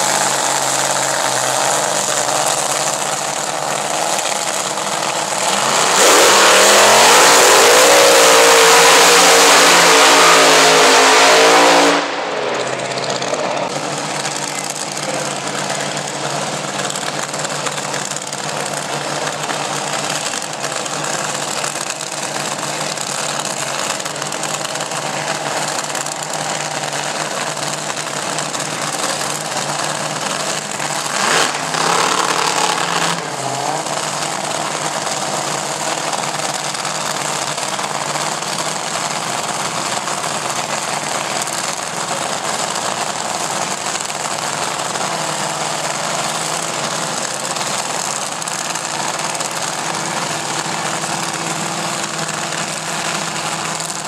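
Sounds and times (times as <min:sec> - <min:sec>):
drag racing engines idling: 0:00.0 - 0:54.0.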